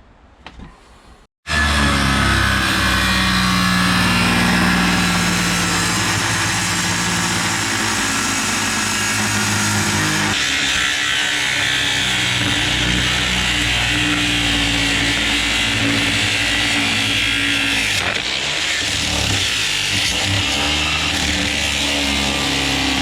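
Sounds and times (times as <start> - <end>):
power saw motor running: 1.5 - 23.0.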